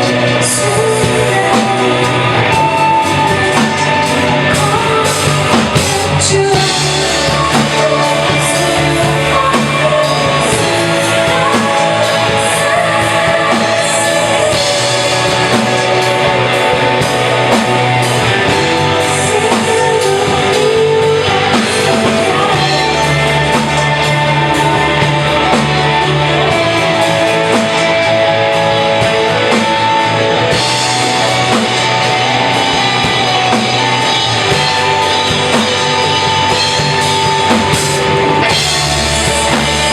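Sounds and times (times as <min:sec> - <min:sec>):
bass guitar: 0:00.0 - 0:39.9
drums: 0:00.0 - 0:39.9
electric guitar: 0:00.0 - 0:39.9
person singing: 0:00.0 - 0:39.9.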